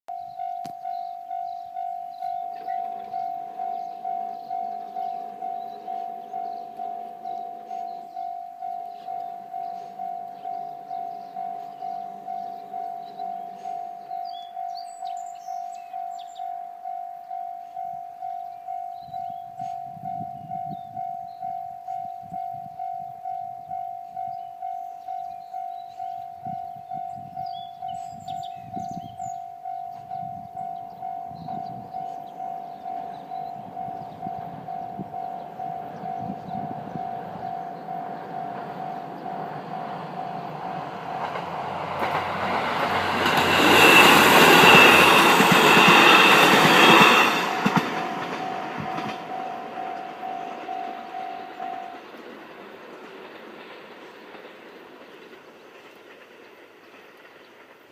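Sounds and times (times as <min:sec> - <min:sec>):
level-crossing warning bell: 0:00.1 - 0:54.6
diesel train passing: 0:00.1 - 0:57.9.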